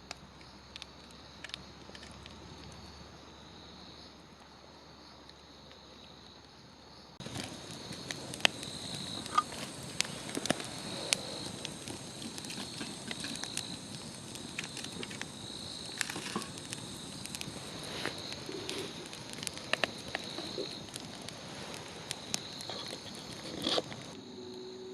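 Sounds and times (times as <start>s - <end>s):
campfire crackling and popping: 0.0s - 6.6s, 7.2s - 24.6s.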